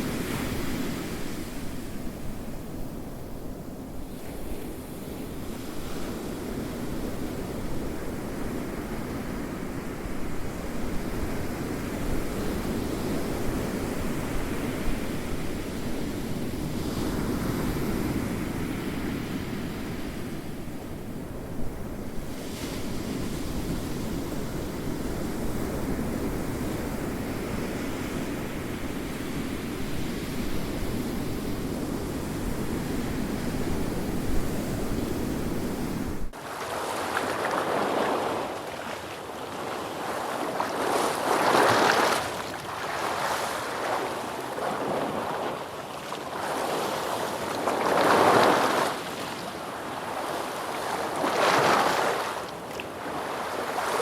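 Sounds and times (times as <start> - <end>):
ocean waves rolling in: 0.0 - 54.0.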